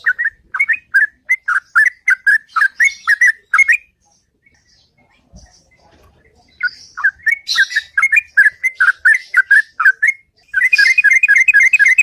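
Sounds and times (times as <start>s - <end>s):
bird singing whistled notes: 0.0s - 5.0s, 6.5s - 12.0s.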